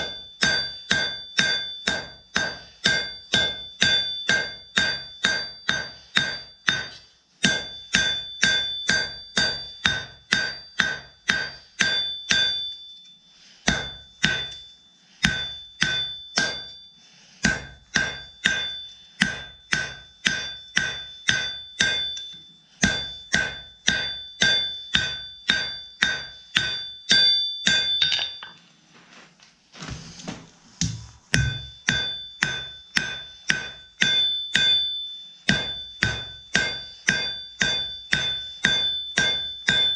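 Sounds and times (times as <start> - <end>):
hammer striking hot steel on anvil: 0.0 - 28.6, 30.8 - 39.9.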